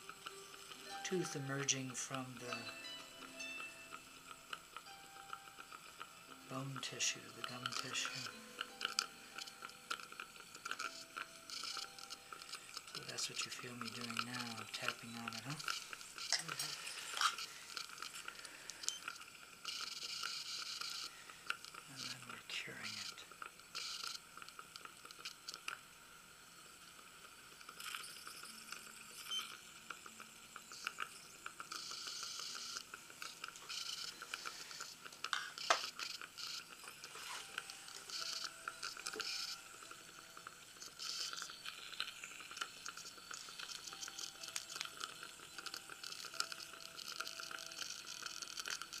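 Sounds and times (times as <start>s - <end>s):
small irregular clicks: 0.0s - 49.0s.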